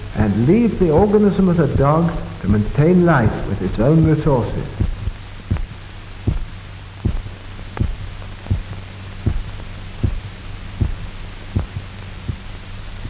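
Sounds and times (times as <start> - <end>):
heartbeat thumps: 0.0 - 13.0
steady low hum: 0.0 - 13.0.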